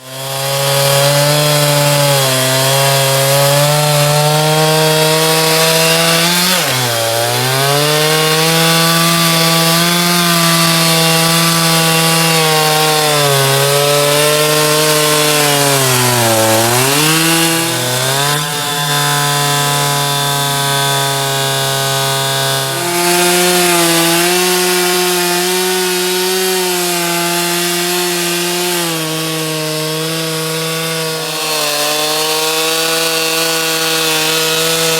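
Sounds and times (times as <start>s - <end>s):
chainsaw cutting log: 0.0s - 34.9s.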